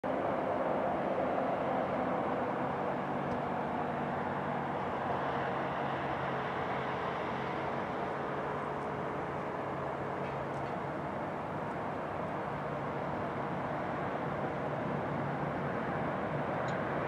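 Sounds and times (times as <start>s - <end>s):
distant jet airliner drone: 0.1s - 17.0s.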